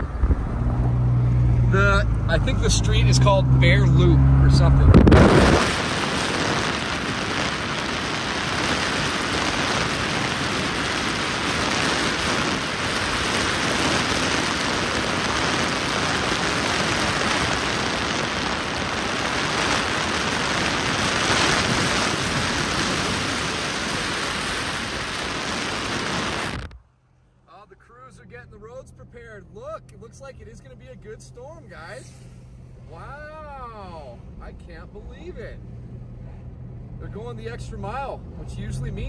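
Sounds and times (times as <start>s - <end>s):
wind and road noise from moving car: 0.0s - 39.0s.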